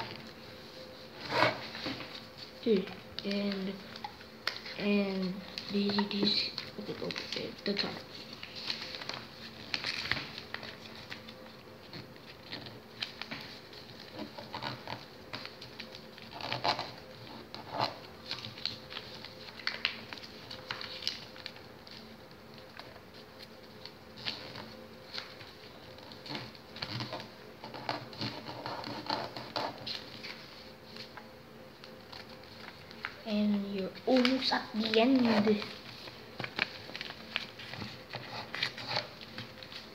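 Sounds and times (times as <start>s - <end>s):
paper rustling and crinkling: 0.0s - 39.9s.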